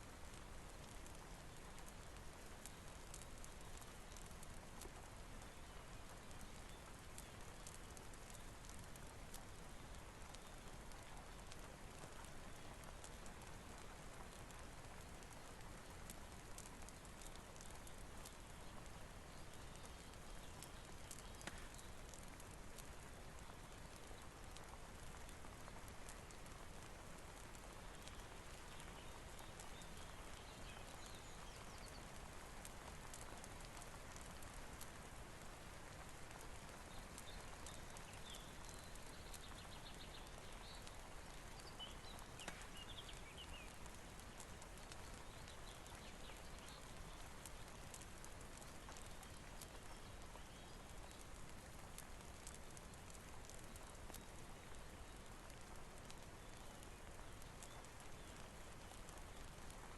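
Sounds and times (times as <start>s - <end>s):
steady rain hiss: 0.0s - 59.9s
raindrop ticks: 0.1s - 59.9s.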